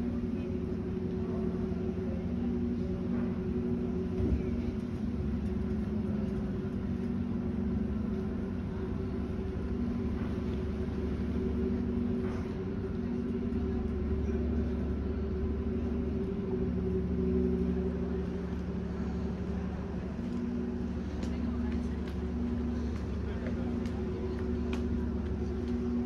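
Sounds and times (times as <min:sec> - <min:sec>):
ferry engines droning: 0:00.0 - 0:26.0.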